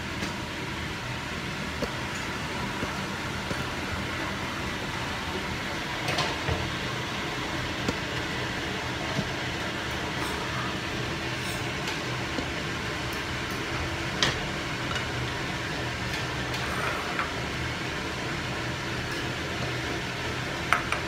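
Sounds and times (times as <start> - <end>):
range hood fan running: 0.0 - 21.0.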